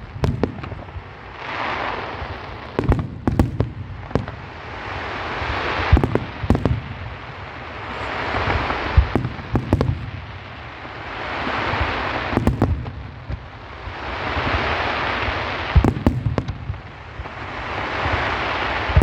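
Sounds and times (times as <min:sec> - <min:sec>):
firework rushing hiss: 0:00.0 - 0:19.0
fireworks sharp bangs: 0:00.0 - 0:19.0.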